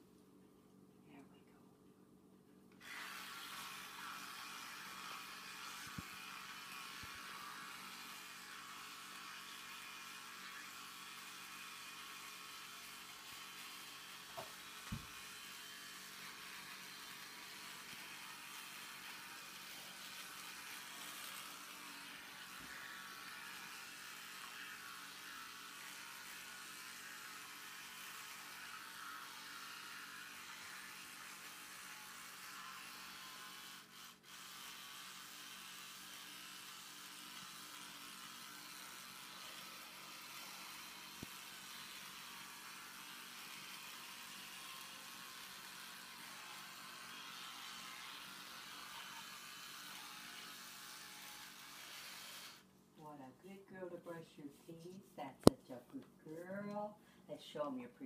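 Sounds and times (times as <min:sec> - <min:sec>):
electric toothbrush buzzing: 0:02.7 - 0:55.6.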